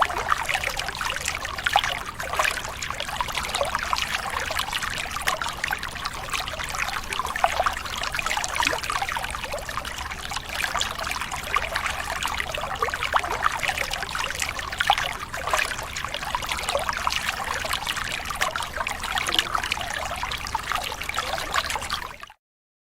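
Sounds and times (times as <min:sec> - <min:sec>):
river water flowing and babbling: 0:00.0 - 0:22.1.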